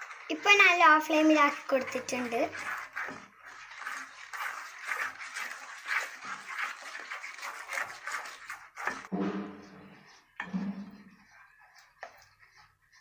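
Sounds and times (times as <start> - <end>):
spoon scraping a pan: 0.0 - 13.0.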